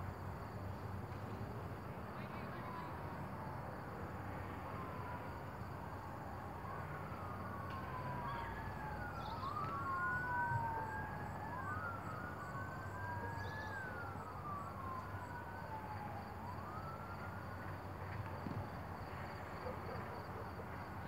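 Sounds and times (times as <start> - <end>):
emergency sirens wailing: 2.0 - 21.0.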